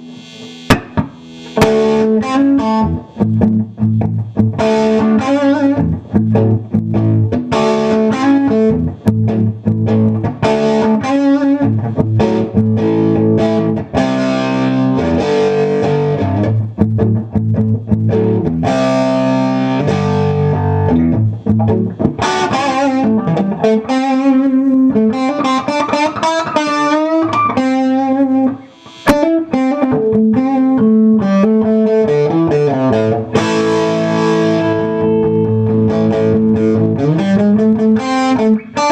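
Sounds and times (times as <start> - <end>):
electric guitar through an amp: 0.0 - 38.9.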